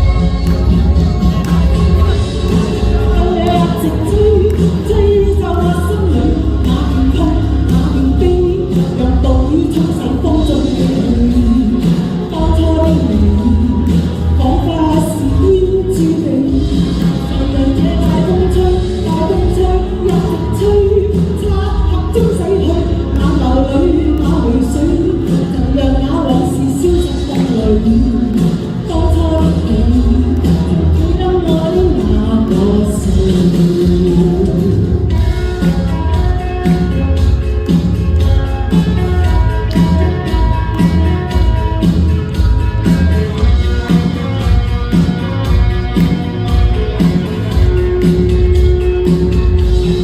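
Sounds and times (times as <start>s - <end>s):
person singing: 0.0s - 50.0s
pop accompaniment with steady beat: 0.0s - 50.0s.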